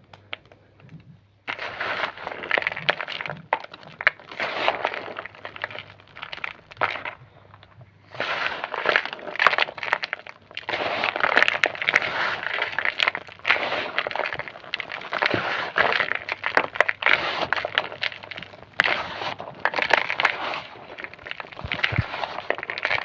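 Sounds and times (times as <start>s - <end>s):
chalk being crunched: 1.5s - 7.2s, 8.1s - 23.0s.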